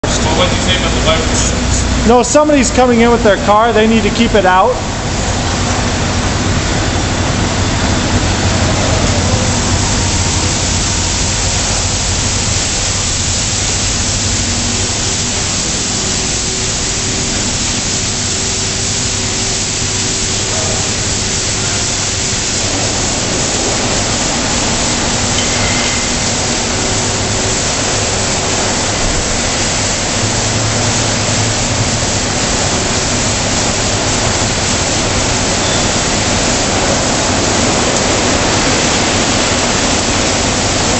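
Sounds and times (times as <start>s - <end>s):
faint machine hum: 0.0s - 40.9s
spinning car wash brushes: 0.0s - 40.9s
water spray hissing: 0.0s - 40.9s.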